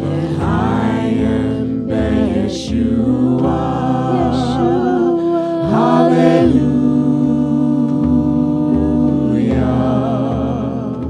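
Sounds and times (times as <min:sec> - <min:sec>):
person singing with vibrato: 0:00.0 - 0:11.0
sustained low accompaniment: 0:00.0 - 0:11.0.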